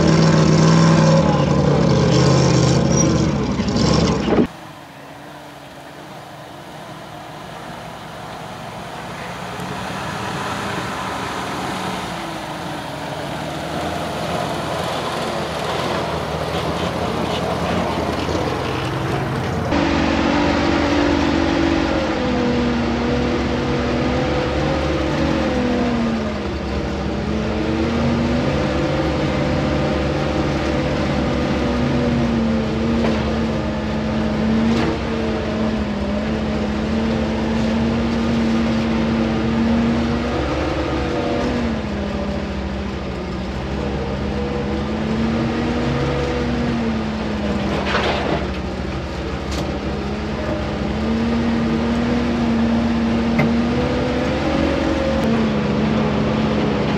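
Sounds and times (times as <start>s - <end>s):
truck engine revving: 0.0s - 56.9s.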